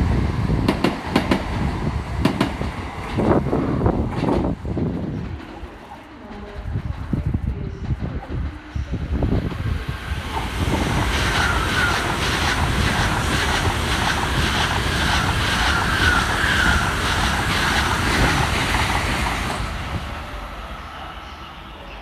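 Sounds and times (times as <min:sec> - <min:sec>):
train rush of wheels and air: 0:00.0 - 0:22.0.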